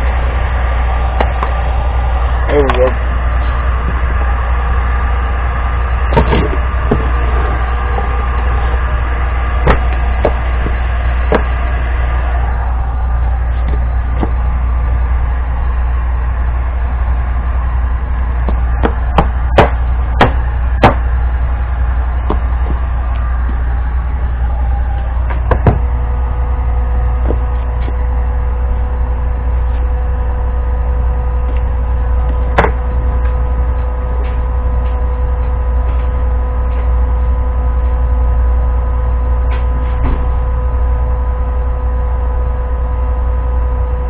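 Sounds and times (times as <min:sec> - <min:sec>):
low hum: 0:00.0 - 0:44.0.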